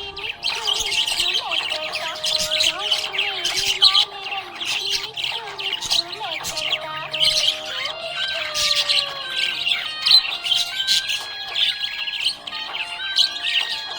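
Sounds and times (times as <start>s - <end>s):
background music with gliding notes: 0.0s - 13.9s
budgies chirping and squawking: 0.0s - 13.9s.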